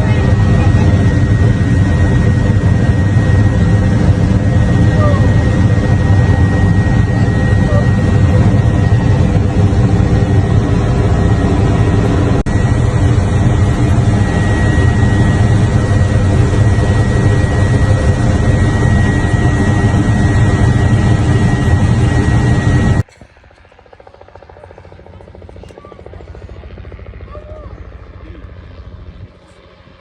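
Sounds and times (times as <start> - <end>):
aircraft engine noise: 0.0 - 30.0.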